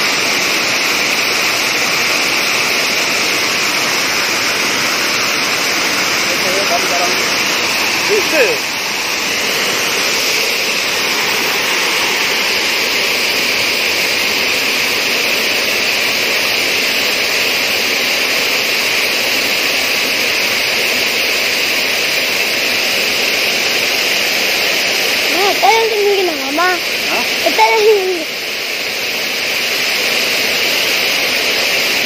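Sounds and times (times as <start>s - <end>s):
water rushing over weir steps: 0.0s - 32.0s.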